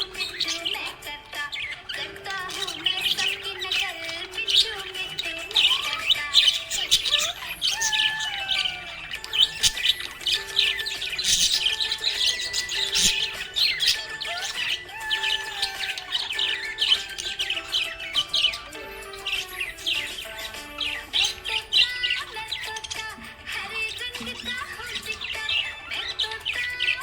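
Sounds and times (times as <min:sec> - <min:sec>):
budgerigars chirping: 0:00.0 - 0:27.0.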